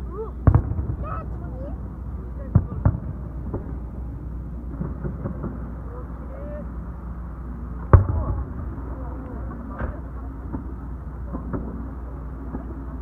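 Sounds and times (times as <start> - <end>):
faint firework bangs and pops: 0.2 - 6.1, 7.8 - 13.0.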